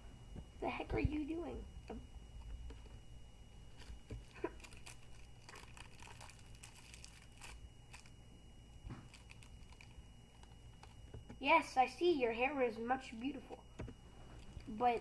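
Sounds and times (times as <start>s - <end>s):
faint high-pitched whine: 0.0s - 15.0s
low hum: 0.0s - 15.0s.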